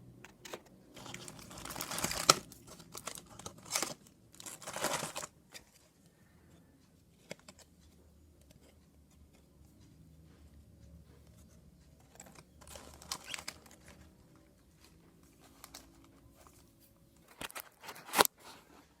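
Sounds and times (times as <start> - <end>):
packaging clicks and crinkling: 0.3 - 6.1, 7.1 - 9.5, 11.3 - 18.6.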